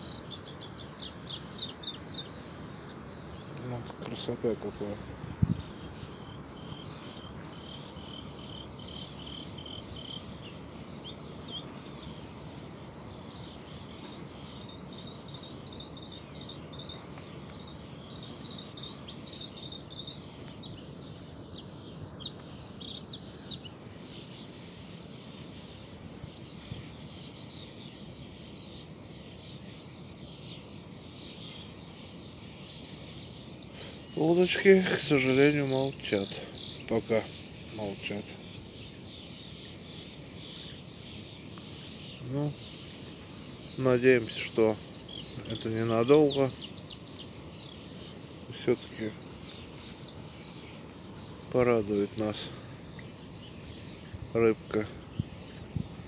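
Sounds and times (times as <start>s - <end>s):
low background noise: 0.0s - 56.0s
small birds chirping: 0.0s - 56.0s.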